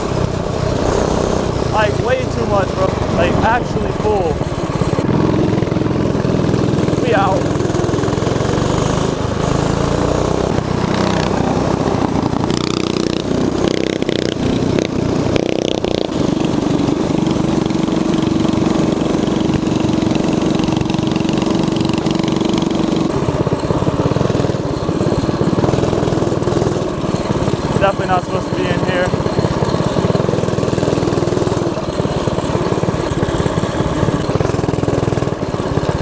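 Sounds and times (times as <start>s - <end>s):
mini bike engine running: 0.0s - 36.0s.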